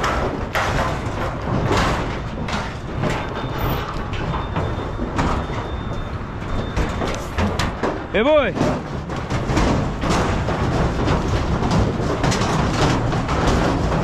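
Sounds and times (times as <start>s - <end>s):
cattle scuffling: 0.0s - 14.0s
livestock trailer rattling and clanking: 0.0s - 14.0s.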